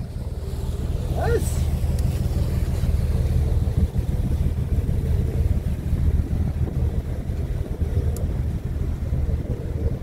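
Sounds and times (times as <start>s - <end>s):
faint engine hum: 0.0s - 10.0s
wind buffeting microphone: 0.0s - 10.0s.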